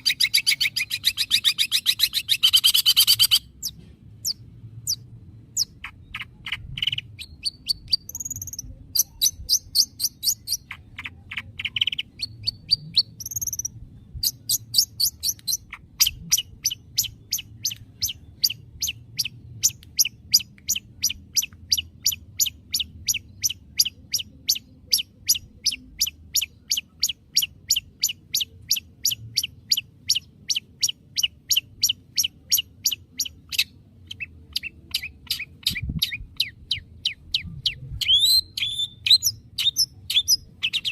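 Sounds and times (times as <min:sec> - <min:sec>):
bird whistles: 0:00.0 - 0:05.0, 0:11.6 - 0:40.9.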